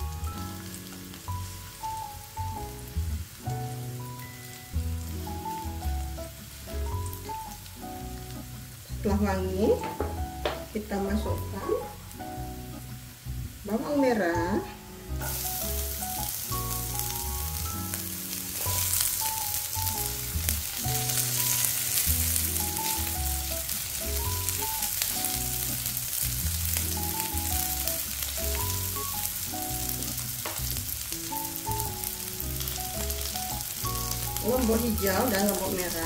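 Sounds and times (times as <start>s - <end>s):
background music: 0.0s - 36.0s
shallots sizzling in hot oil: 0.0s - 36.0s.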